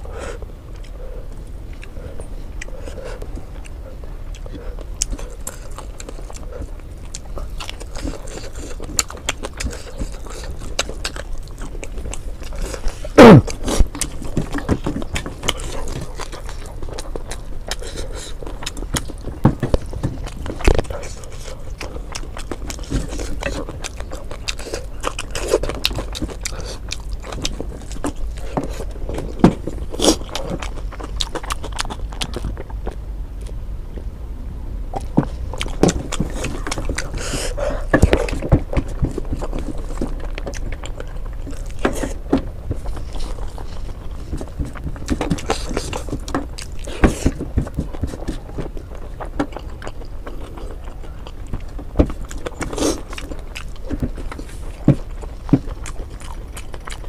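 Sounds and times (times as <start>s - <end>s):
chewing and mouth smacking: 0.0s - 34.1s, 34.9s - 57.0s.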